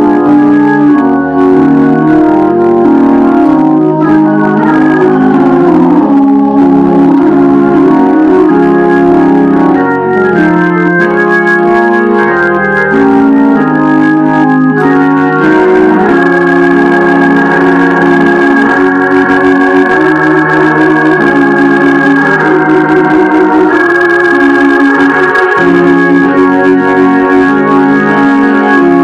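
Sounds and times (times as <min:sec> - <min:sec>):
electric organ chords: 0:00.0 - 0:29.0.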